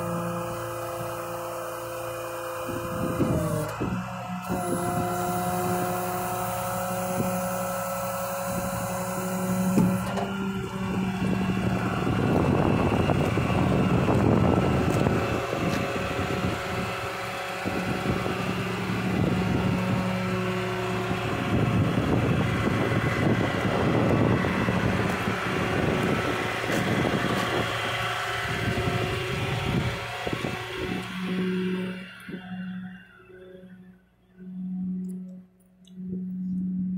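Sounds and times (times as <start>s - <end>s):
hydraulic rushing noise: 0.0s - 34.0s
truck engine humming: 0.0s - 36.9s.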